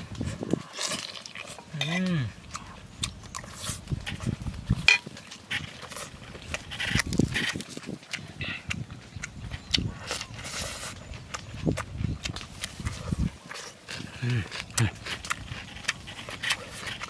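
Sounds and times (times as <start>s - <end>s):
chewing with wet mouth clicks: 0.0s - 17.0s.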